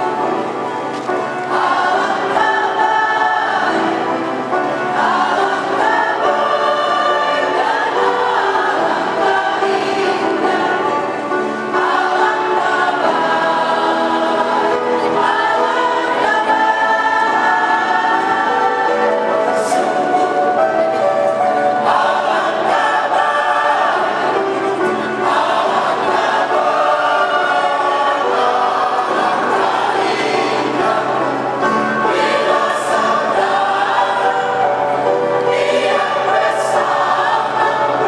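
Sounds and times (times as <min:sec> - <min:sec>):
mixed choir singing in harmony: 0:00.0 - 0:38.0.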